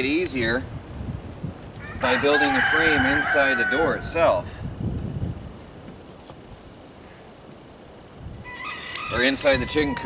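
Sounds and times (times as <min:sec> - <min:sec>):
faint outdoor background: 0:00.0 - 0:10.0
wind rumble on microphone: 0:00.0 - 0:10.0.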